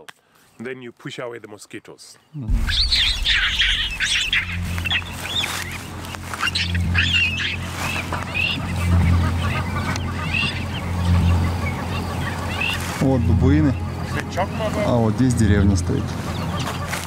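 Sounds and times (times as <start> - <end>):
birds calling: 0.4 - 17.0
steady low hum: 2.4 - 16.6.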